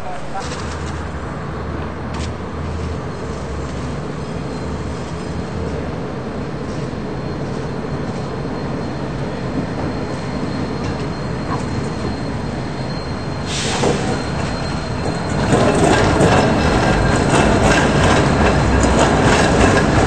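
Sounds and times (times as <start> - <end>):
tram passing on track: 0.0 - 20.0.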